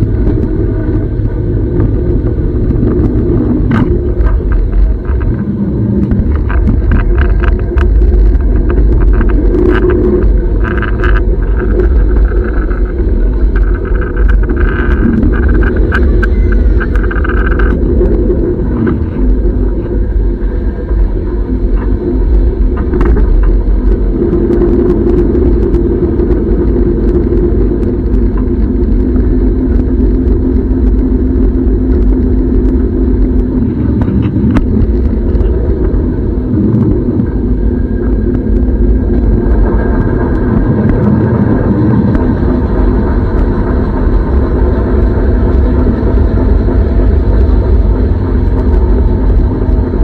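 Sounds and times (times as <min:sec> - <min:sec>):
train rumbling on track: 0:00.0 - 0:50.0.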